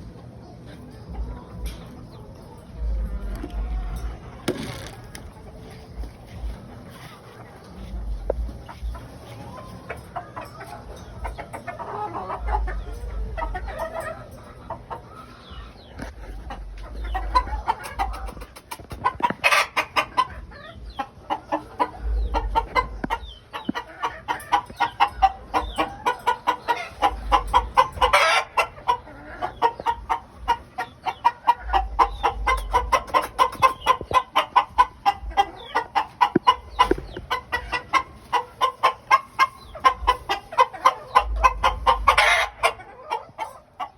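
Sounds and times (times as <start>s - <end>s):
game birds clucking: 0.0s - 43.9s.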